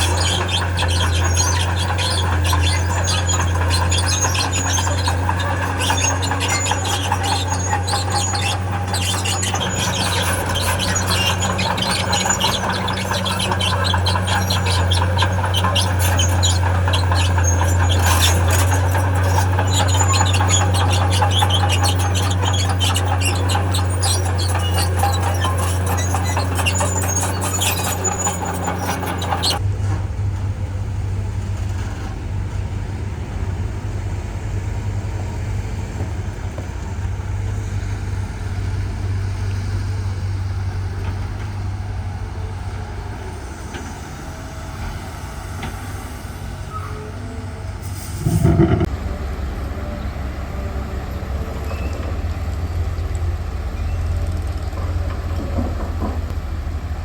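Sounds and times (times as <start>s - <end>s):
diesel earthmoving machinery droning: 0.0s - 57.0s.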